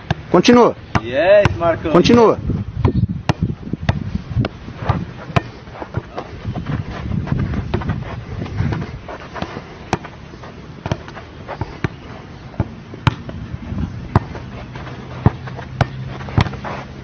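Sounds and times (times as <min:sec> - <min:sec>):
football being kicked: 0:00.9 - 0:08.0, 0:08.6 - 0:10.1, 0:10.8 - 0:14.4, 0:15.2 - 0:16.7.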